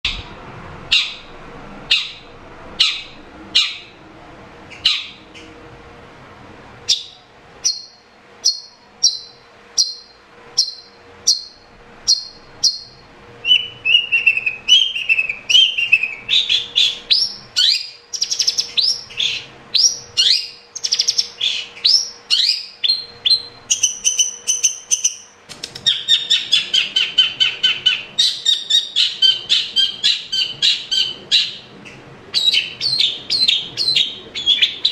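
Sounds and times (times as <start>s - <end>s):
bird calling and singing: 0.1s - 1.3s, 1.9s - 4.0s, 4.7s - 5.6s, 6.9s - 34.9s.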